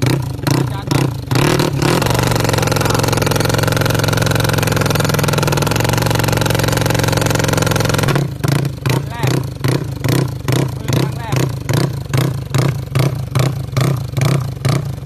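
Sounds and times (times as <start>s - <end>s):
motorcycle engine revving steadily: 0.0s - 15.0s.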